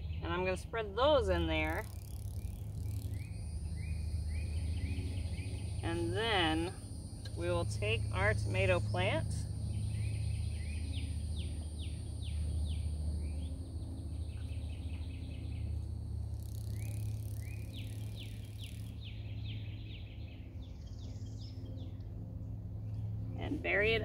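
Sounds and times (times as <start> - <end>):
high insect drone: 0.0 - 24.0
low steady hum: 0.0 - 24.0.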